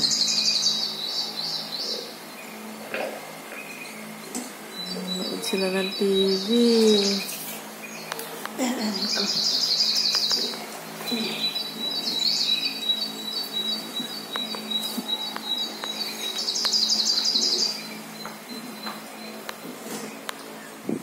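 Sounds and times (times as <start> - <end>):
low hum: 0.0 - 21.0
songbirds chirping and trilling: 0.0 - 21.0.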